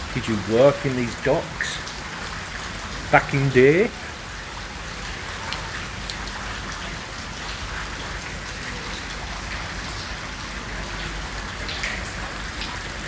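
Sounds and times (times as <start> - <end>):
heavy rain: 0.0 - 13.0
raindrops ticking on microphone: 0.0 - 13.0.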